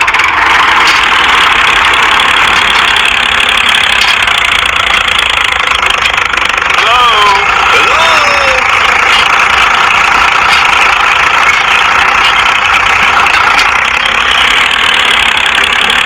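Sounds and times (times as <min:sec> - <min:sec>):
small tractor motor running: 0:00.0 - 0:16.0.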